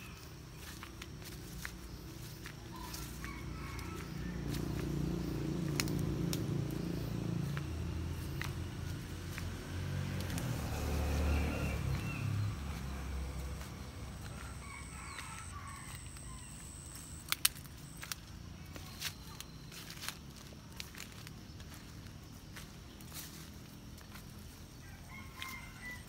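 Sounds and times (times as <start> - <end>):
passing vehicle engine rumble: 0.0 - 26.0.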